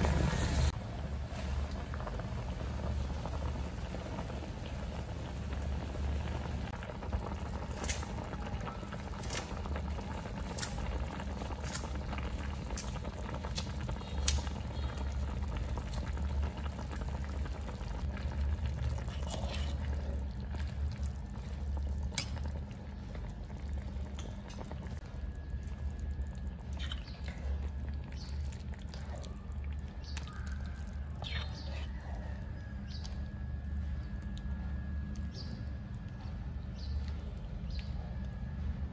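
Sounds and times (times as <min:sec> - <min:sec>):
stew bubbling in a pot: 0:00.0 - 0:38.3
low hum: 0:00.0 - 0:38.9.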